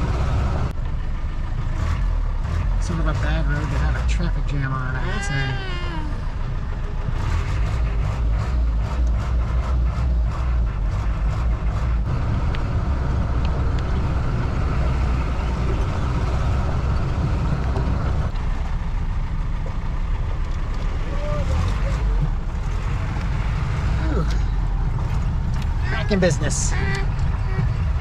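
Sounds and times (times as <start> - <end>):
vehicle engine and road rumble: 0.0 - 28.0.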